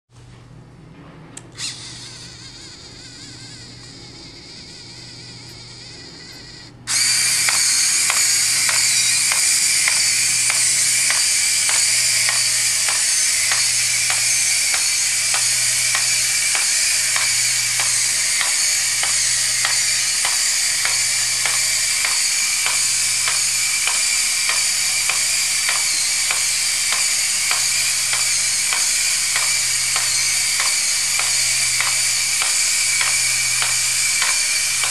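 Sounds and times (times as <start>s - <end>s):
quiet motor hum: 0.2s - 34.9s
servo motors whining: 1.6s - 34.9s
robot feet ticking on tile: 6.9s - 34.9s.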